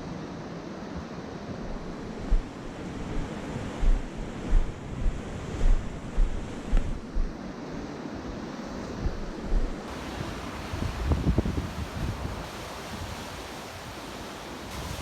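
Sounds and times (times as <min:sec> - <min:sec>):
ocean surf: 0:00.0 - 0:15.0
wind buffeting microphone: 0:00.8 - 0:15.0.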